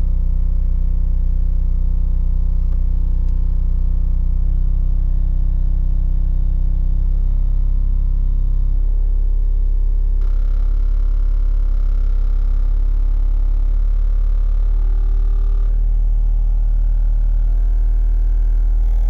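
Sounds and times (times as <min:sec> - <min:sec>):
deep bass test tone: 0:00.0 - 0:19.0.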